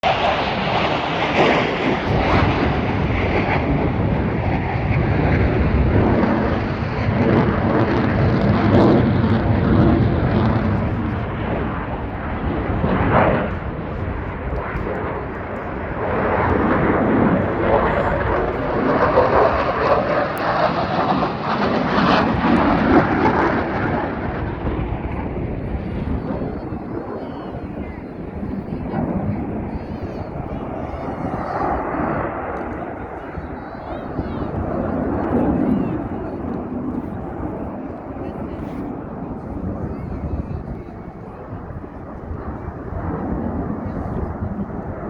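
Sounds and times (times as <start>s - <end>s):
airplane engine: 0.0s - 45.0s.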